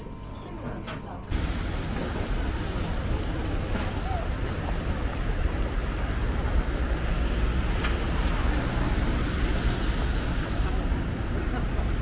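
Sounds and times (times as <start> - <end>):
cars and vans passing: 1.3 - 12.0.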